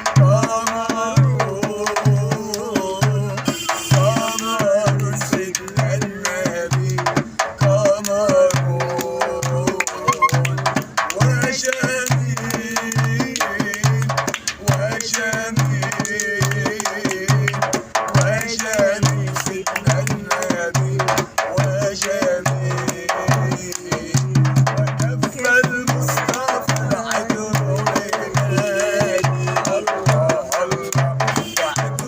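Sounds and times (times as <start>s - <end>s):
hand drum beat: 0.0s - 3.4s, 4.0s - 32.0s
person singing praise song: 0.0s - 32.0s.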